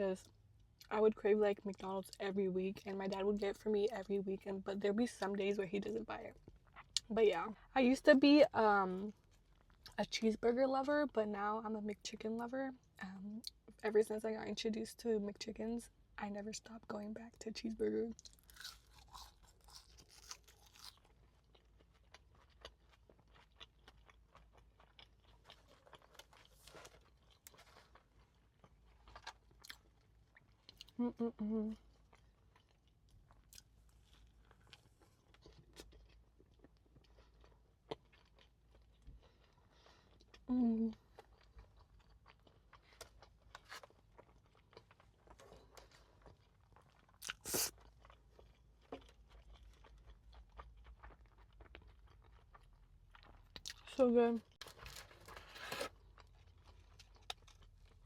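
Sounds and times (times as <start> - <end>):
chewing and crunching food: 0.1 - 7.7, 8.7 - 11.4, 17.7 - 58.0.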